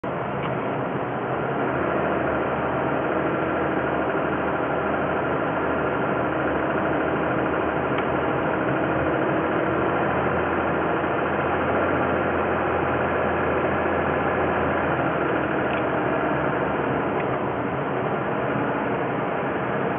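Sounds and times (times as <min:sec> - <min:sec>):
car engine running with a knock: 0:00.0 - 0:19.9.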